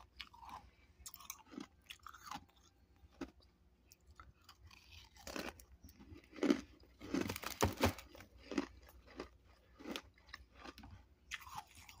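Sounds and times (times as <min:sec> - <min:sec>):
frost being crunched and chewed: 0:00.0 - 0:12.0.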